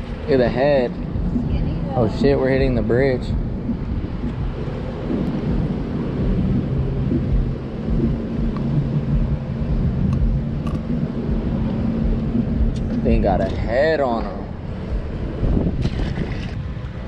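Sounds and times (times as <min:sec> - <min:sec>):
engine hum: 0:00.0 - 0:17.0
wind buffeting microphone: 0:00.0 - 0:17.0.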